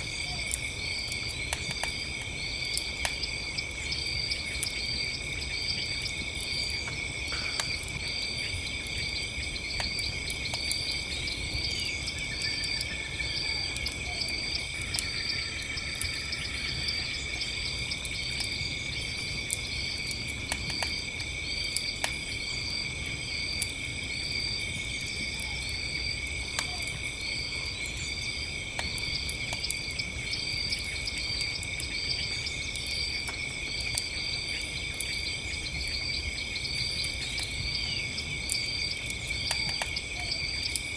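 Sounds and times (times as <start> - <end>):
crickets chirping: 0.0 - 40.9
campfire crackling and popping: 0.4 - 3.7, 4.5 - 40.9.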